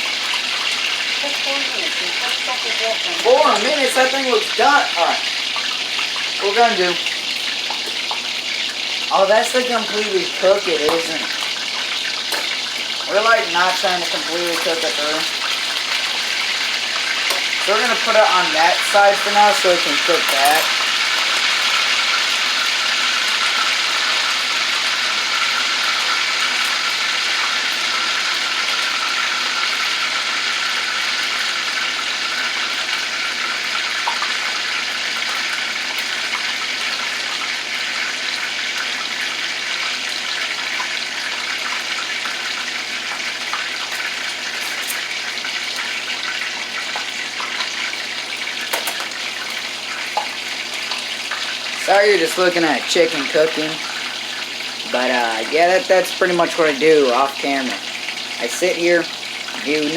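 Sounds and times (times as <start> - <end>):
chicken sizzling in frying pan: 0.0 - 59.9.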